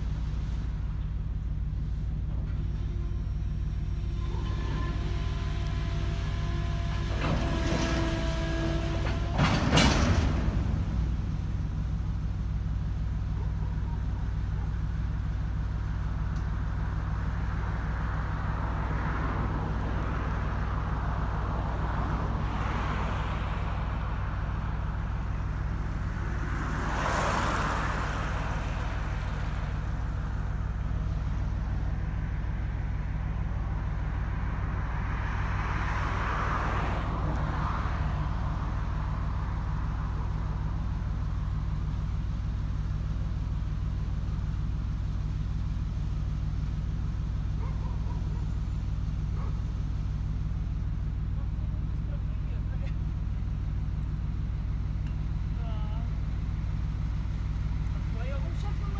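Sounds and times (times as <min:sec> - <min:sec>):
diesel locomotive engine drone: 0:00.0 - 0:58.9.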